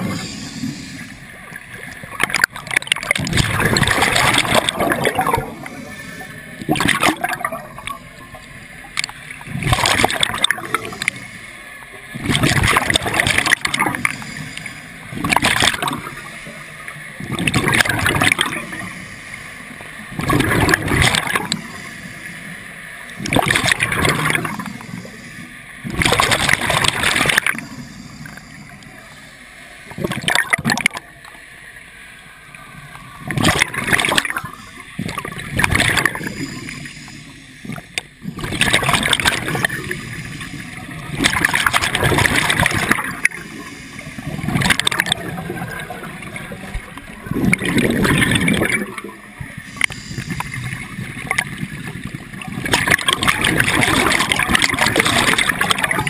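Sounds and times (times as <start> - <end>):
underwater exhaust bubbles: 0.0 - 56.0.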